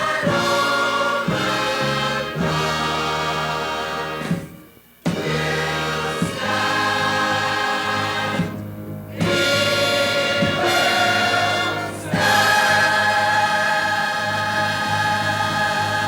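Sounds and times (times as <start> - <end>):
gospel choir singing: 0.0 - 16.0
instrumental accompaniment: 0.0 - 16.0.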